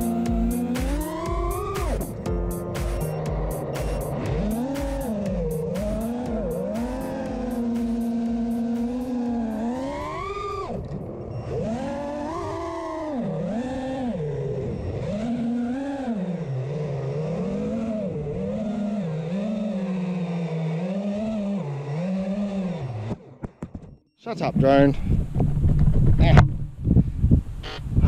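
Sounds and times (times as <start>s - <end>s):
drone motors whining: 0.0s - 24.1s.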